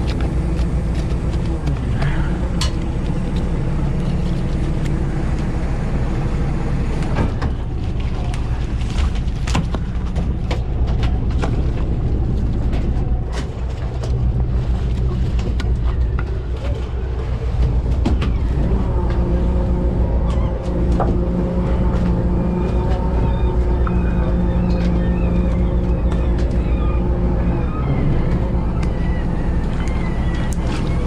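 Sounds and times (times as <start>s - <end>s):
boat motor droning: 0.0s - 31.0s.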